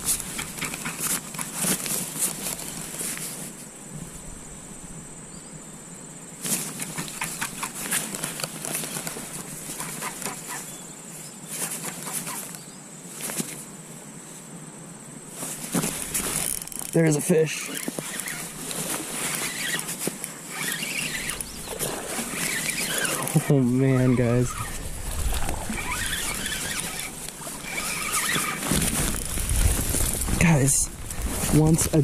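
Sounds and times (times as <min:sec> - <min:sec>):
rustling and clicking: 0:00.0 - 0:03.7, 0:06.4 - 0:10.8, 0:11.5 - 0:12.6, 0:13.2 - 0:13.7, 0:15.4 - 0:32.0
insects trilling: 0:00.0 - 0:32.0.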